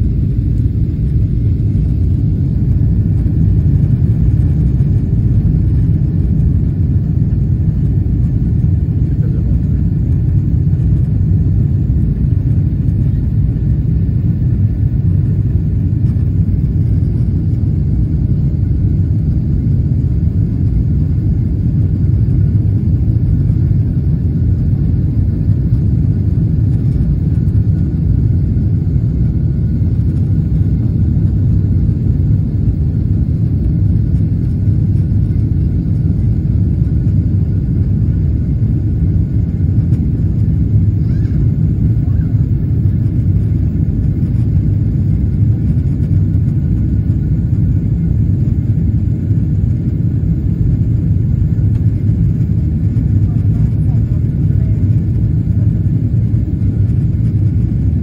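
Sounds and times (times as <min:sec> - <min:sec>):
faint steady whine: 0:00.0 - 0:58.0
jet engine cabin rumble: 0:00.0 - 0:58.0.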